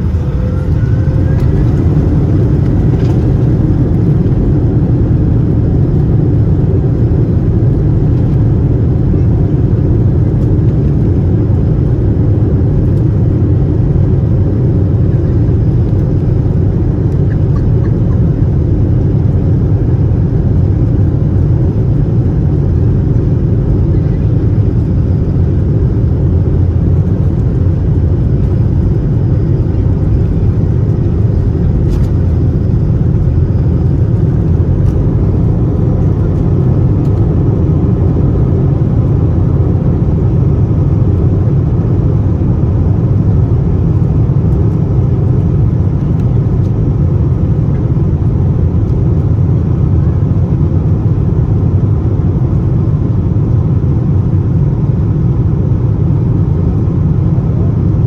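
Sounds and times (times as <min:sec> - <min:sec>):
airliner engines rumbling in cabin: 0:00.0 - 0:58.0.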